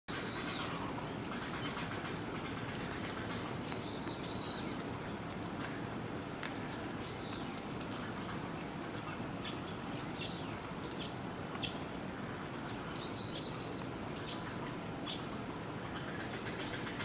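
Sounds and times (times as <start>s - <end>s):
low rumble and hiss: 0.1s - 17.0s.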